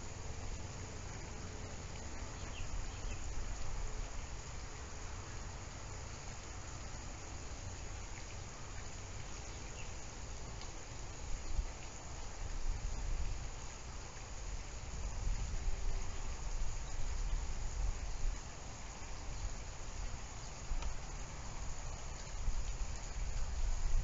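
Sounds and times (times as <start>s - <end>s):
even hiss: 0.0s - 24.0s.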